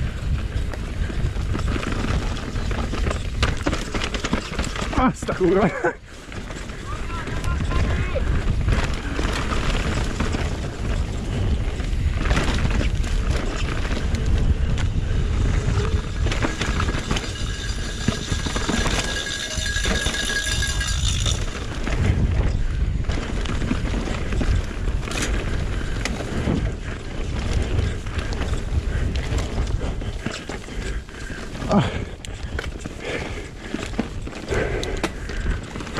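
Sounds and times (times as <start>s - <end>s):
bike rattling over rough ground: 0.0s - 35.9s
bike tyre and drivetrain noise: 0.0s - 35.9s
wind rumble on microphone: 0.0s - 35.9s.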